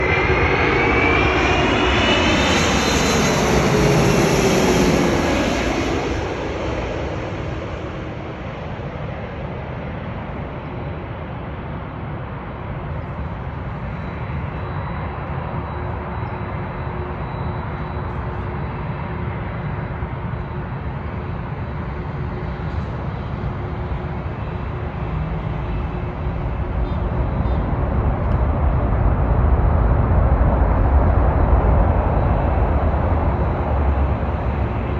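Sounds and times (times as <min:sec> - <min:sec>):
jet engine roar: 0:00.0 - 0:34.9
jet engine whine: 0:00.0 - 0:34.9.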